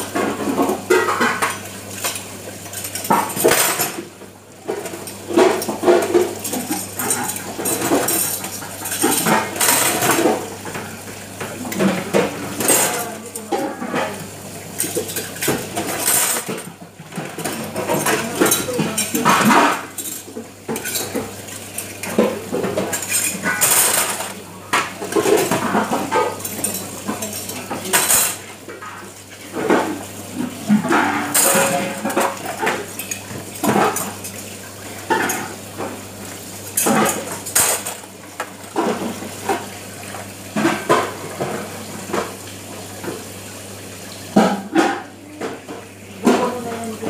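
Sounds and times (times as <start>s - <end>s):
cutlery and dishes clattering: 0.1s - 4.0s, 4.7s - 10.8s, 11.4s - 14.2s, 14.8s - 34.4s, 35.0s - 35.9s, 36.8s - 39.7s, 40.6s - 42.3s.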